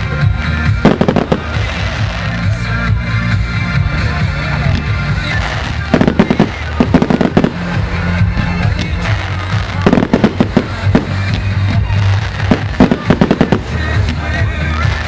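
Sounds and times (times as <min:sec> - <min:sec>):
fireworks bangs: 0:00.0 - 0:02.8, 0:03.9 - 0:15.0
music playing: 0:00.0 - 0:15.0.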